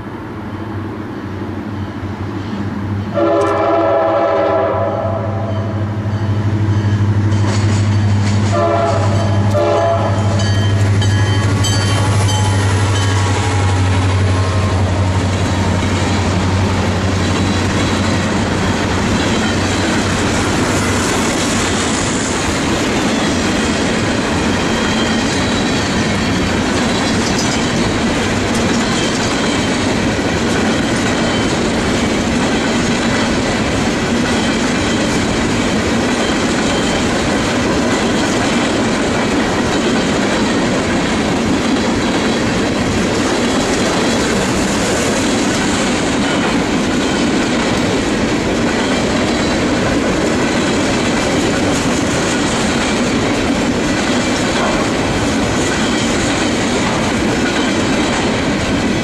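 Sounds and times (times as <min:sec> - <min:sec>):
freight train passing: 0:00.0 - 0:59.0
wheels clacking over rails: 0:06.7 - 0:59.0.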